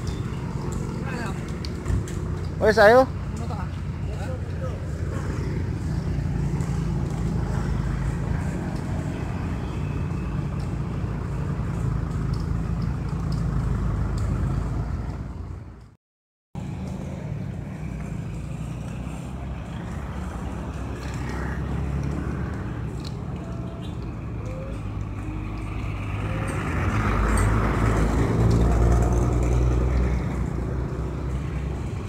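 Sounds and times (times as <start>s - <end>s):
motorcycle engines rumbling: 0.0s - 15.9s, 16.6s - 32.0s
road noise: 0.0s - 16.0s, 16.6s - 32.0s.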